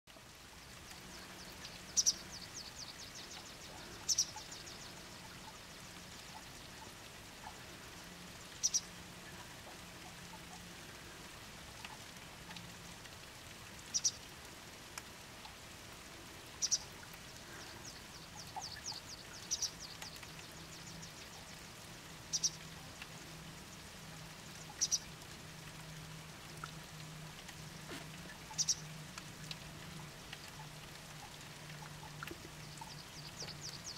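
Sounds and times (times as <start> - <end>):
background hiss: 0.1 - 33.9.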